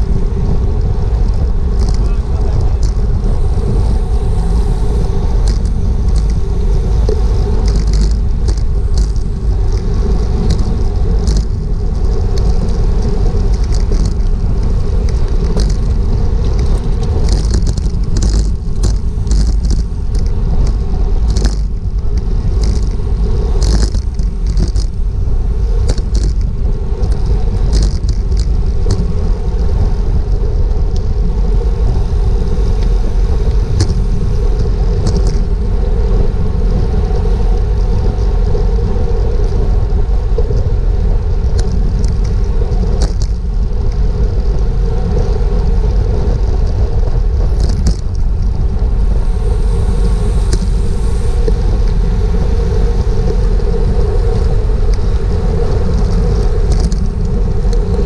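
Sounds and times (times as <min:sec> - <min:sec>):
tyres rumbling on road: 0:00.0 - 0:58.0
wind buffeting microphone: 0:00.0 - 0:58.0.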